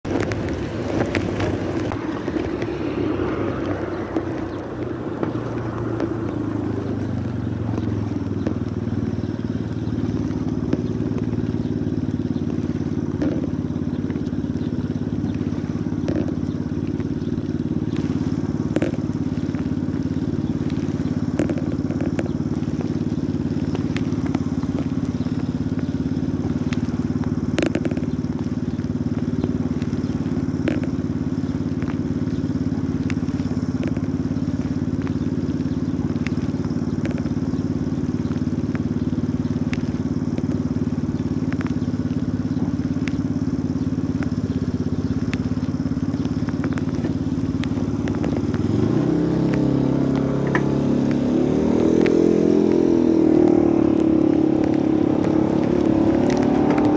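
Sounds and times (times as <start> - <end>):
motorcycle engine idling and revving: 0.0 - 56.9
light ticks: 0.1 - 56.9.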